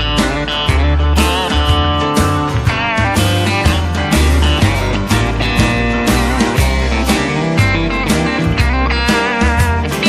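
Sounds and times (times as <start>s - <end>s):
bass line: 0.0s - 10.0s
guitar lead with bending notes: 0.0s - 10.0s
steady drum beat: 0.0s - 10.0s.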